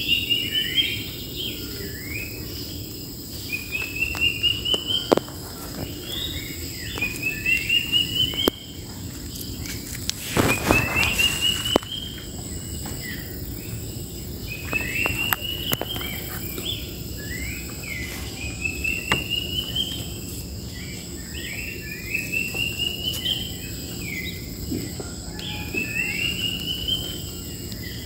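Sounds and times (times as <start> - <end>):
bird singing trill: 0.0 - 28.0
high insect drone: 0.0 - 28.0.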